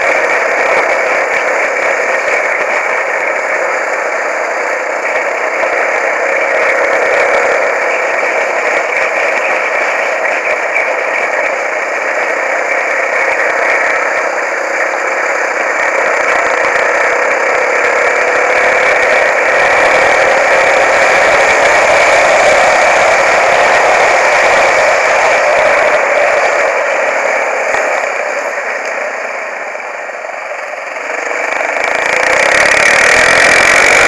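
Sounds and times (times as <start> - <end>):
motorcycle engine drone: 0.0 - 34.0.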